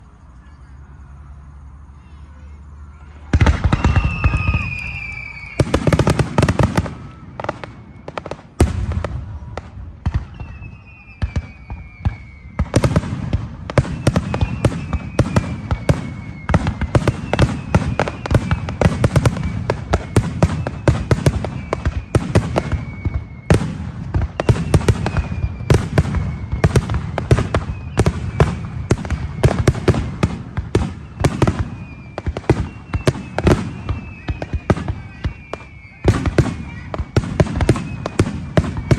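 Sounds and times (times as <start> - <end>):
high falling whistles: 0.0 - 8.6, 10.1 - 13.0, 13.8 - 38.9
fireworks bangs and crackling: 3.0 - 38.9.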